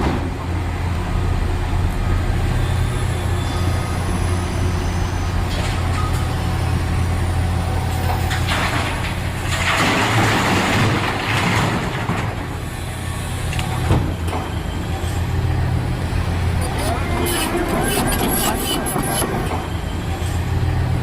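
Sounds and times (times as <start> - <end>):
diesel engine droning: 0.0 - 9.7, 12.4 - 21.0.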